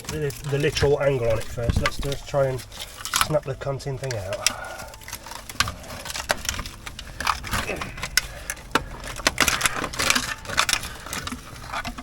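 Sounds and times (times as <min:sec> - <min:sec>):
hand tools clicking and knocking: 0:00.0 - 0:12.0.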